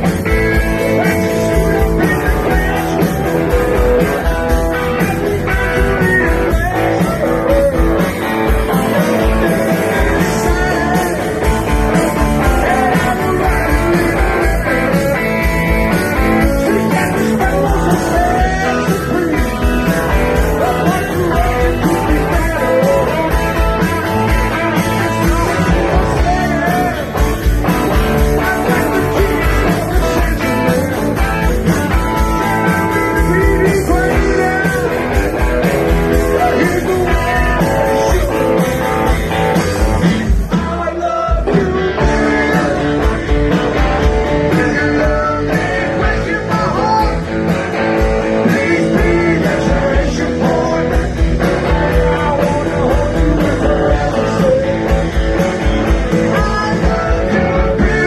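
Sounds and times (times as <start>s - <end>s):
live rock band playing: 0.0s - 58.0s
lead singing: 0.3s - 31.5s, 32.5s - 43.5s, 44.2s - 47.4s, 48.0s - 58.0s.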